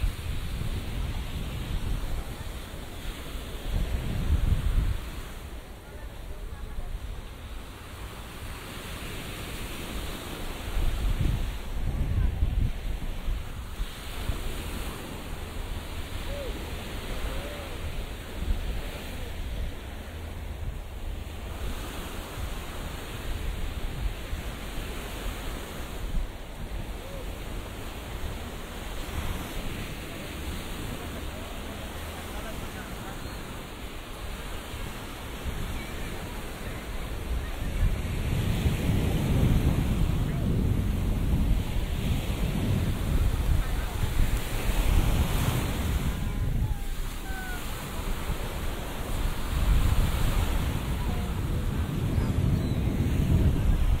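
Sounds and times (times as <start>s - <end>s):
sea waves washing onto beach: 0.0s - 54.0s
wind rumbling on microphone: 0.0s - 54.0s.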